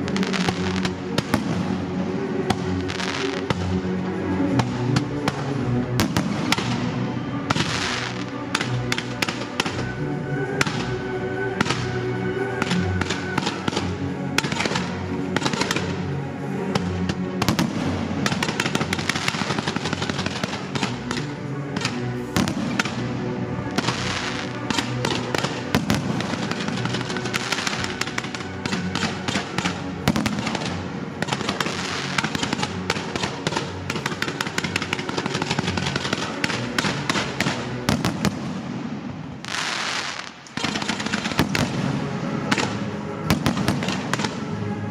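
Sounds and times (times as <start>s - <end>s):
fireworks bangs and crackling: 0.0s - 3.9s, 4.5s - 12.0s, 12.6s - 44.7s
music over loudspeakers: 0.0s - 44.9s.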